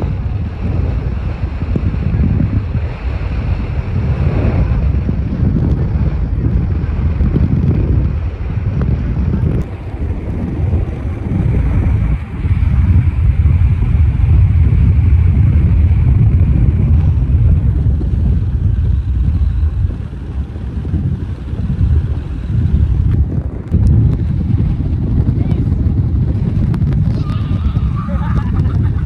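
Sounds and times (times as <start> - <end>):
boat engine: 0.0 - 29.0
water noise: 0.0 - 29.0
wind buffeting microphone: 0.0 - 29.0.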